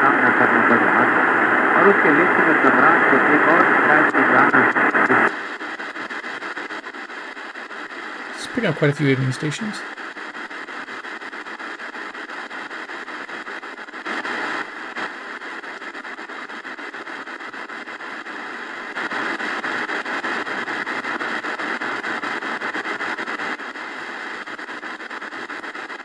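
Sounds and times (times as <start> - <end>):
shortwave radio static: 0.0 - 26.0.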